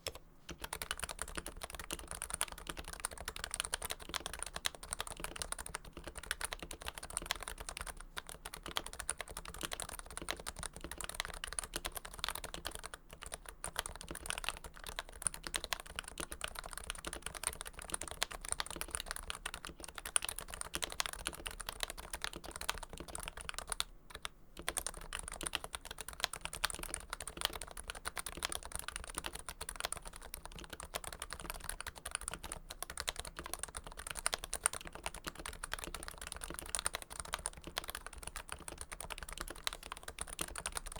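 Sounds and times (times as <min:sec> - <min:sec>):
fast keyboard typing: 0:00.0 - 0:40.9.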